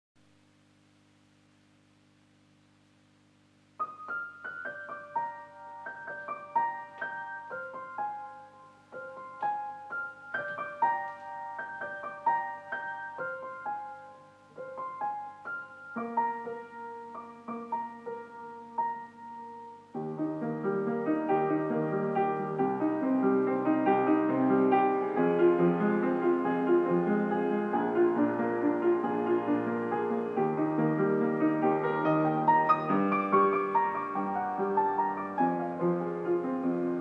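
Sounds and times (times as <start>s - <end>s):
faint low hum: 0.2s - 37.0s
slow piano melody: 3.6s - 37.0s.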